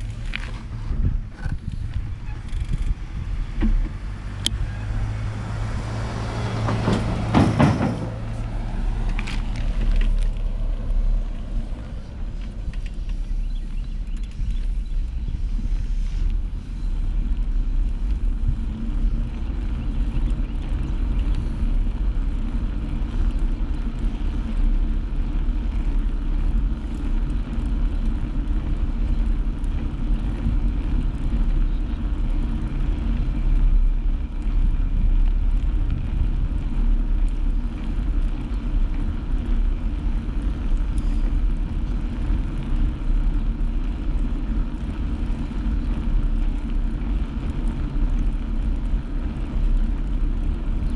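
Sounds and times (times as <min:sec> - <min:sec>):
bike ride road noise: 0:00.0 - 0:50.9.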